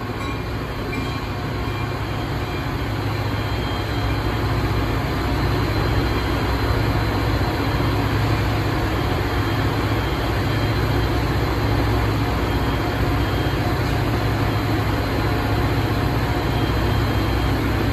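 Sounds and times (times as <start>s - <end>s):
locomotive engine rumbling: 0.0s - 17.9s.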